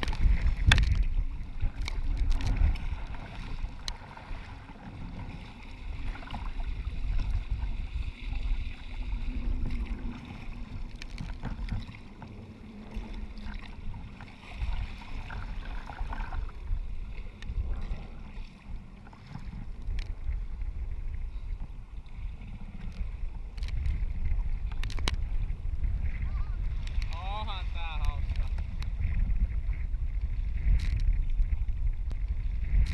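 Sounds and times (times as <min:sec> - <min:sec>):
waves splashing against kayak hull: 0:00.0 - 0:32.9
wind noise on microphone: 0:00.0 - 0:32.9.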